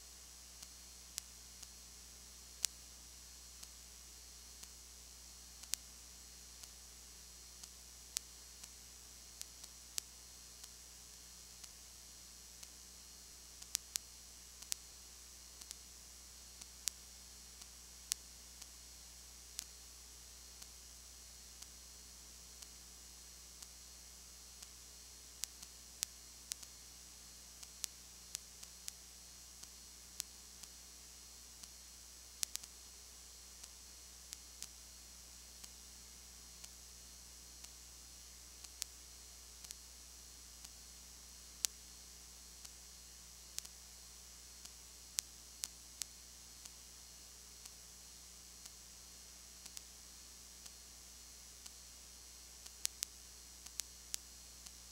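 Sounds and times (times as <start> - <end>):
electrical hum and hiss: 0.0 - 54.9.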